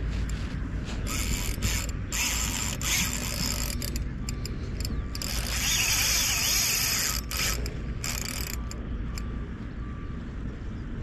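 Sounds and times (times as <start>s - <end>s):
fishing reel drag buzzing: 0.3s - 9.2s.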